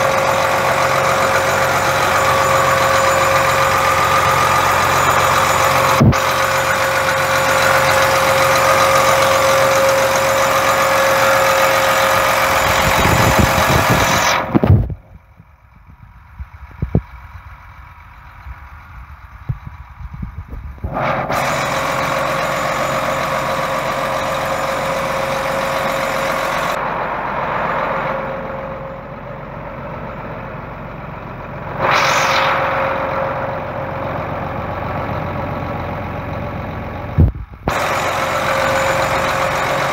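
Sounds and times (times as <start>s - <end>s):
steady whine: 0.0s - 39.9s
tractor diesel engine idling: 0.0s - 39.9s.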